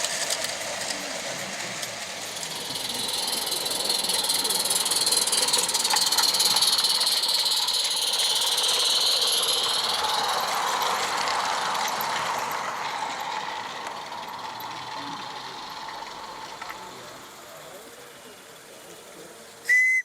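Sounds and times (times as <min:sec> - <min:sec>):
steam locomotive hissing steam: 0:00.0 - 0:20.0.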